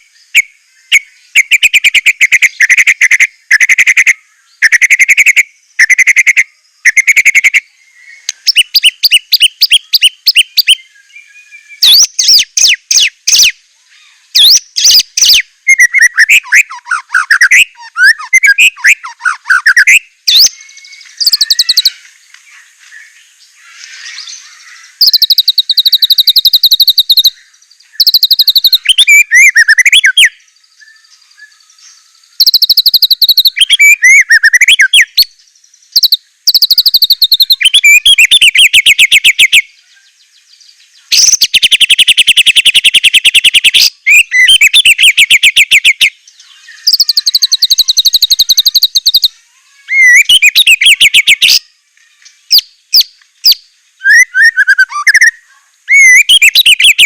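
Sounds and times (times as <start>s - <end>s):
bird singing rapid trills: 0.0s - 22.0s, 23.3s - 57.0s.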